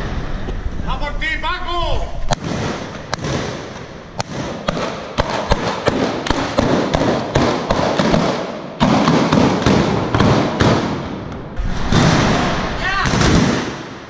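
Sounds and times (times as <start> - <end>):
guns firing blank shots: 2.3 - 14.0.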